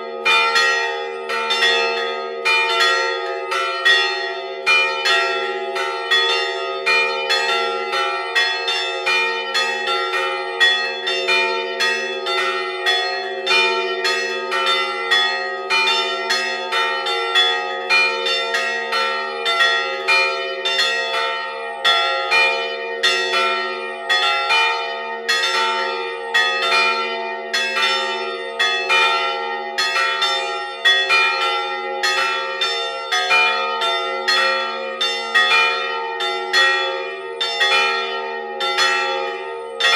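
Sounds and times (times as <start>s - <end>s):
church bells chiming: 0.0s - 39.9s.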